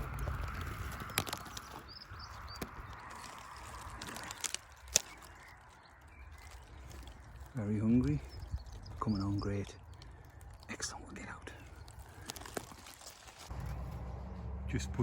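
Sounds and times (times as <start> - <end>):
twigs snapping and clicking: 0.0 - 14.0
branches rustling: 0.0 - 14.7.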